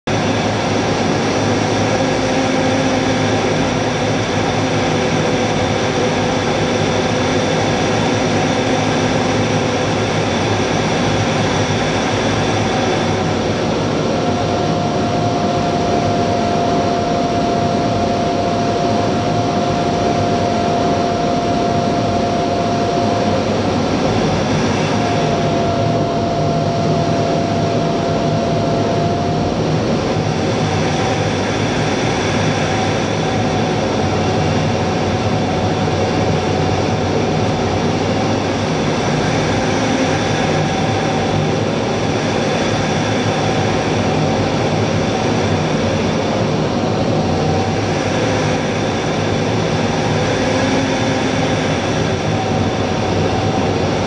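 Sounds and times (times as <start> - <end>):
jet cockpit noise: 0.0 - 54.0
steady engine whine: 0.0 - 54.0.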